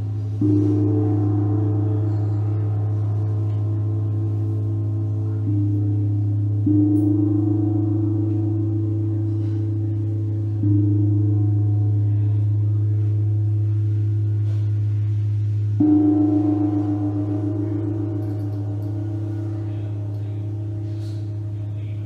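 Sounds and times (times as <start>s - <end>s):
gong and metal bowls ringing: 0.0s - 22.0s
steady low hum: 0.0s - 22.0s.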